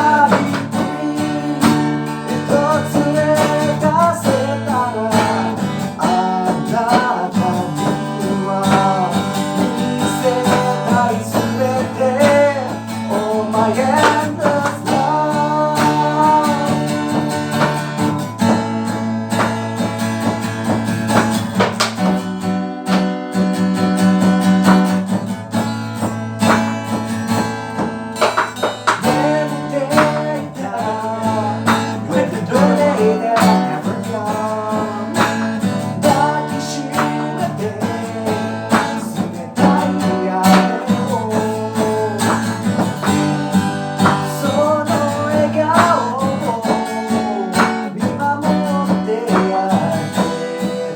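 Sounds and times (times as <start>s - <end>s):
drum beat: 0.0s - 50.9s
guitar playing: 0.0s - 50.9s.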